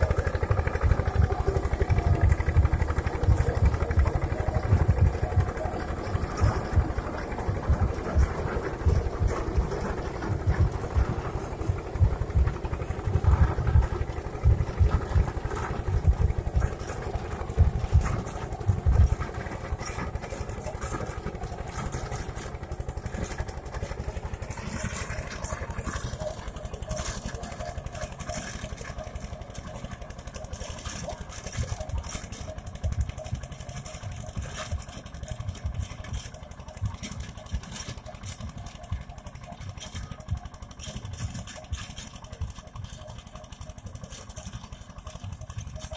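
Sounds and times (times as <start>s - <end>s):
rotavator blades churning soil: 0.0s - 45.9s
tractor diesel engine under load: 0.0s - 45.9s.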